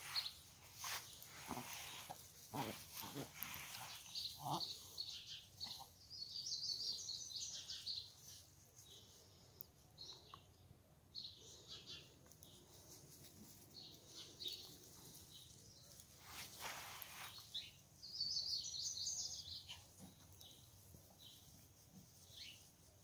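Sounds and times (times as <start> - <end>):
birds chirping: 0.0 - 13.0, 13.6 - 21.6.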